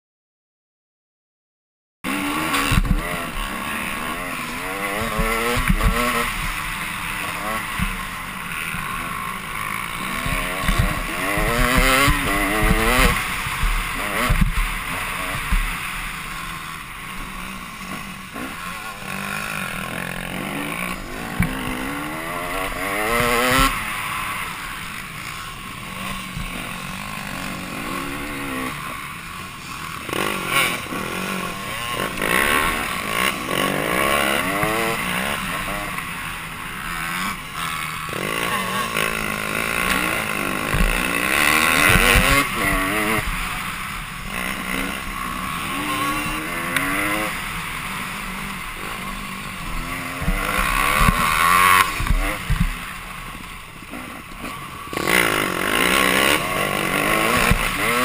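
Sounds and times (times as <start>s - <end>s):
dirt bike engine revving: 2.0s - 58.0s.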